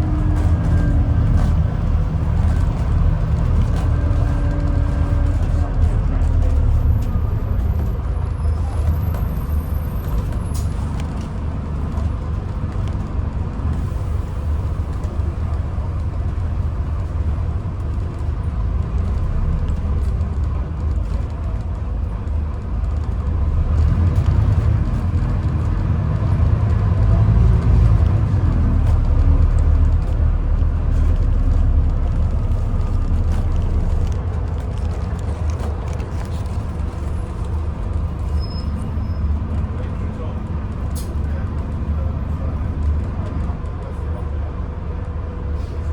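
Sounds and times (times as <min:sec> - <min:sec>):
bus engine rumble: 0:00.0 - 0:45.9
road noise: 0:00.0 - 0:45.9.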